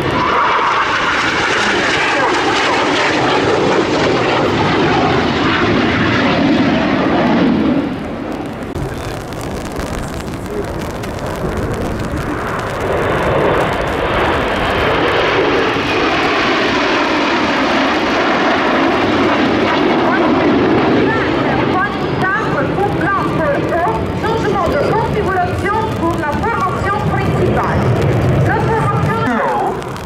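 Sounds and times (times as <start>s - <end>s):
jet aircraft roar: 0.0s - 30.0s.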